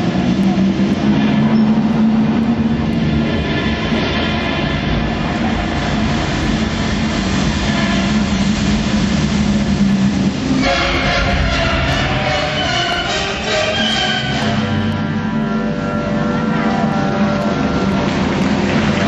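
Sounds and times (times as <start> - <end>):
loud rumbling sound effect: 0.0 - 19.0
music: 0.0 - 19.0.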